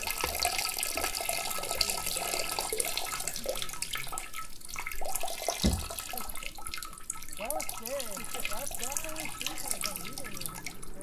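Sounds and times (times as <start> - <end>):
urine stream splashing: 0.0 - 11.0.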